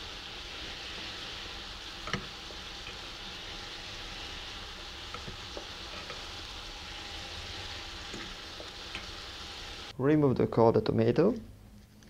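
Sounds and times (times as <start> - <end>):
mushrooms sizzling in a skillet: 0.0 - 10.0.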